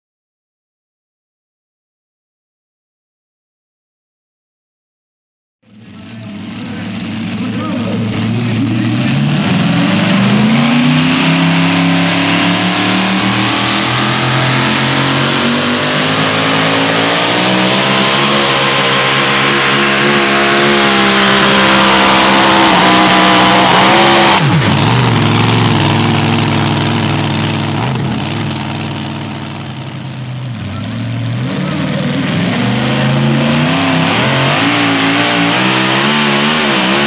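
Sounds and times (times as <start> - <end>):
supercharged engine at full throttle: 5.7 - 37.0.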